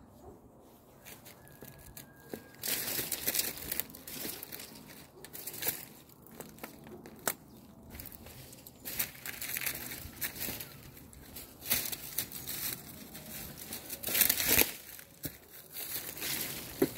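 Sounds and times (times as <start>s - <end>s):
footsteps crackling through dry brush: 0.6s - 16.9s.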